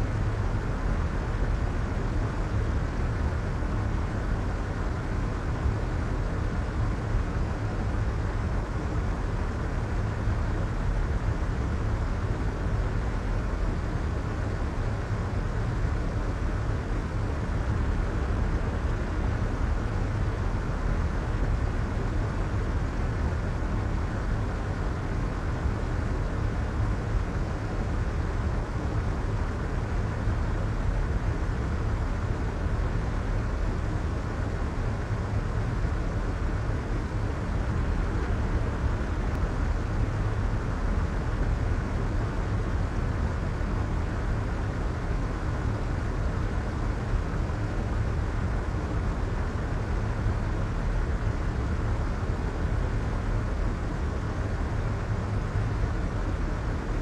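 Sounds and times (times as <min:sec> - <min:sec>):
low soft white noise: 0:00.0 - 0:57.0.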